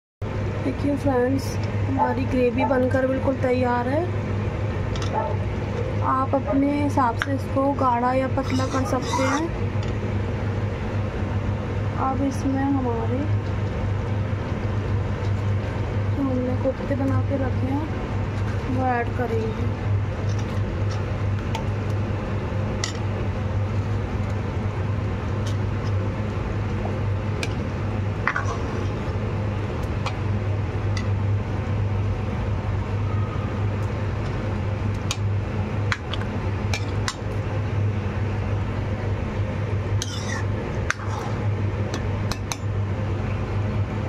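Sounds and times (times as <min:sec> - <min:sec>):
steady low hum: 0:00.2 - 0:44.0.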